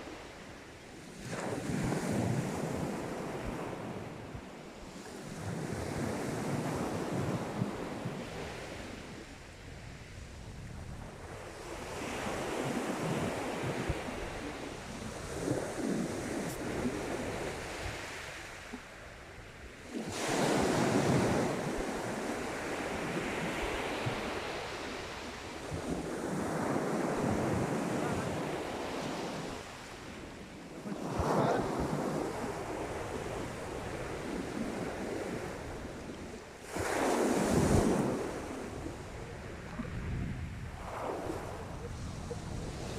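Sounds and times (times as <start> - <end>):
sea waves breaking on beach: 0.0 - 42.9
wind buffeting microphone: 5.2 - 42.9.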